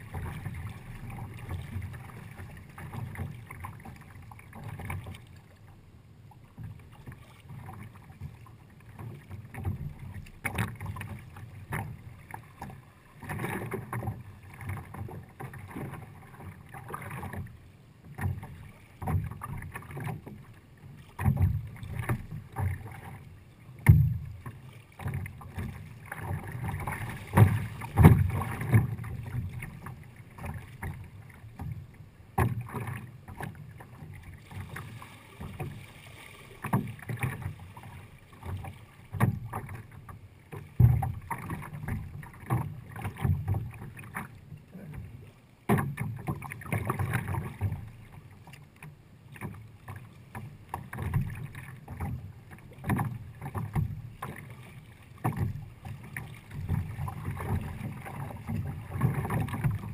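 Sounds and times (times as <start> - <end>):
paddle splashing: 0.0 - 59.9
water sloshing against hull: 0.0 - 59.9.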